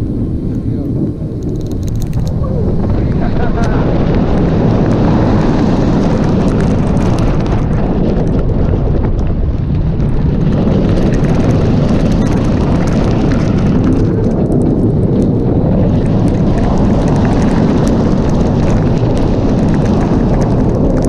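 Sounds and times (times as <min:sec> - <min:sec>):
roller coaster train rumbling: 0:00.0 - 0:21.0
wind rushing over microphone: 0:00.0 - 0:21.0.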